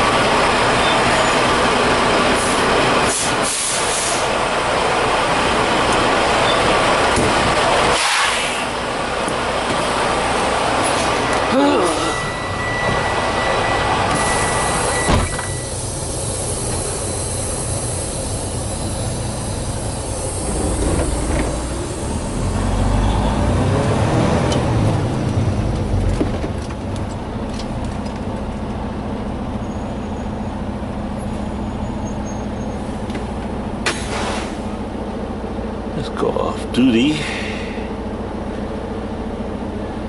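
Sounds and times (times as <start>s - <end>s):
truck diesel engine running: 0.0s - 40.0s.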